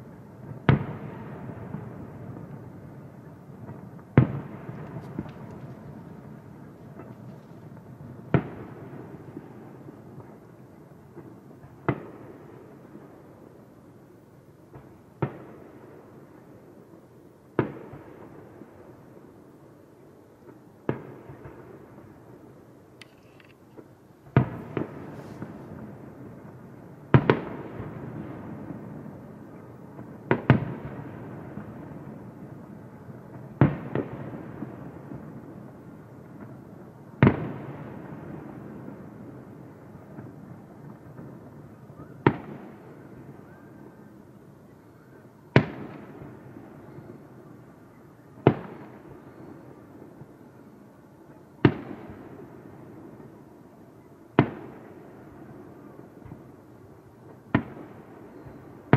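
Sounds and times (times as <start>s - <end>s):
low steady background noise: 0.0s - 58.9s.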